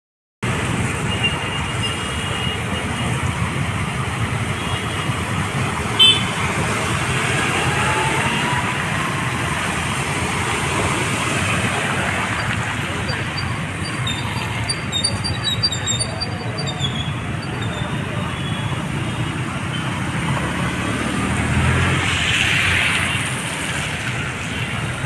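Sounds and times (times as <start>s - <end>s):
road traffic noise: 0.4s - 25.0s.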